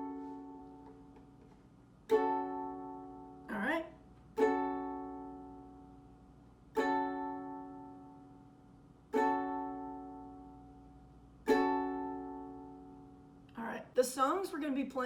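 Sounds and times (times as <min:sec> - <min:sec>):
ukulele chord strums: 0:00.0 - 0:13.4.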